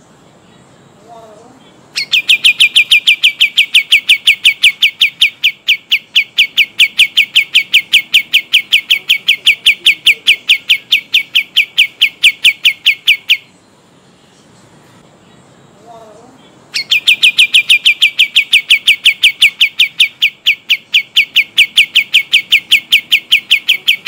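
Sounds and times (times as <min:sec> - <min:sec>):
songbird trilling: 0:00.3 - 0:14.6, 0:15.2 - 0:24.0.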